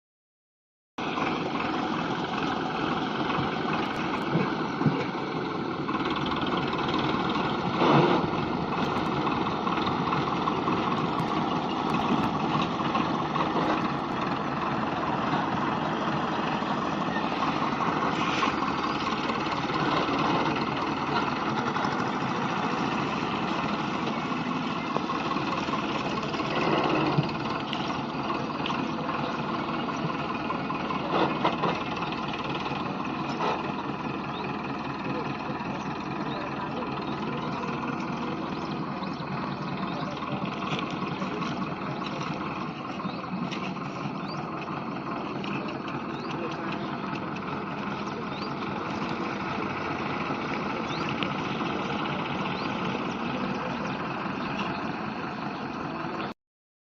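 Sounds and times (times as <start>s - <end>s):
tractor diesel engine running: 1.0s - 56.4s.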